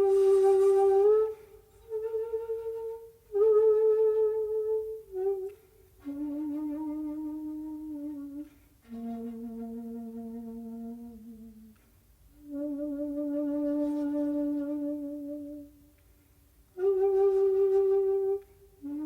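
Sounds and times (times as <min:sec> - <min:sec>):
bamboo flute long notes: 0:00.0 - 0:15.8, 0:16.7 - 0:19.0.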